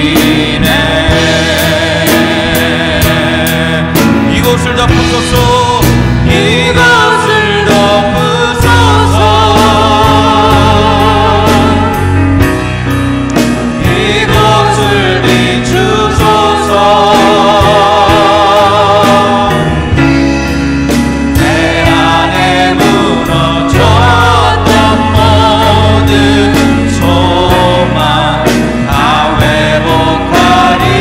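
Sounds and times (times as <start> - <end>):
man singing with vibrato: 0.0 - 12.4, 13.7 - 20.2, 21.4 - 31.0
deep bass notes: 0.0 - 31.0
grand piano: 0.0 - 31.0
guitar: 0.0 - 31.0
steady drum beat: 0.0 - 31.0.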